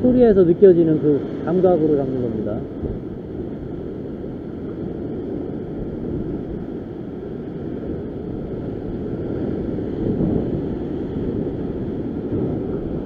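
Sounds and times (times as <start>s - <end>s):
surf breaking over rocks: 0.0s - 13.0s
wind buffeting microphone: 0.0s - 13.0s.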